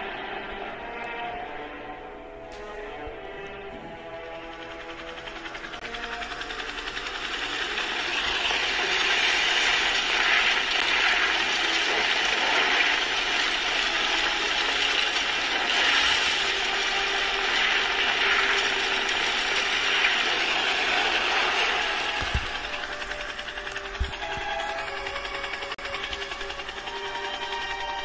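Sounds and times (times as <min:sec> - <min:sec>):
rapid mechanical clicking and rattling: 0:03.8 - 0:28.0.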